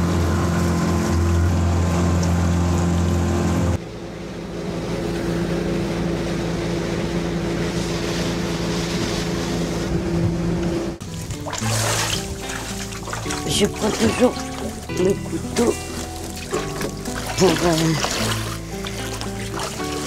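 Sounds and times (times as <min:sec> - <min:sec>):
outboard motor running: 0:00.0 - 0:20.0
water rushing along hull: 0:00.0 - 0:20.0.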